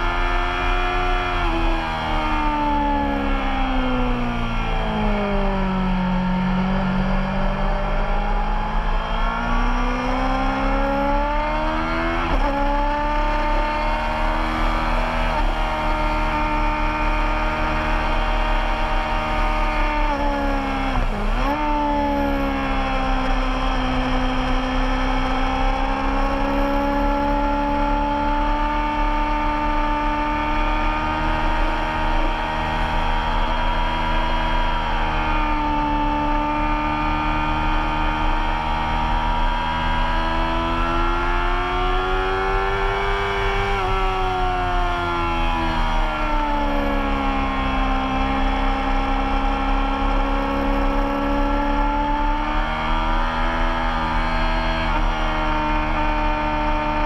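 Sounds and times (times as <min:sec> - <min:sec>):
race motorcycle engine: 0:00.0 - 0:57.0.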